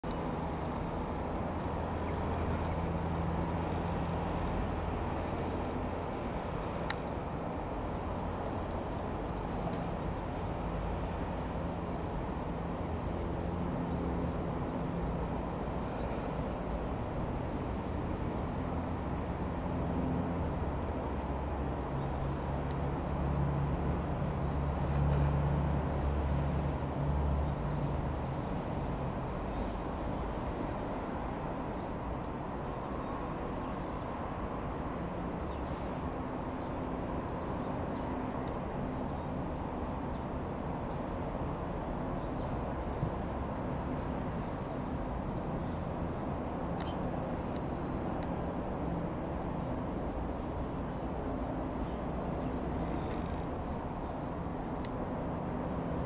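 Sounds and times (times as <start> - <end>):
propeller plane droning overhead: 0.0 - 56.0.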